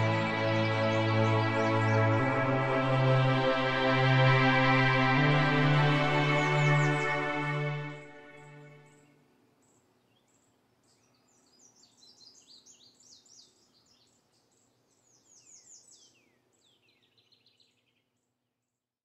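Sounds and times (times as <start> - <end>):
songbird chirping and warbling: 0.0 - 18.2.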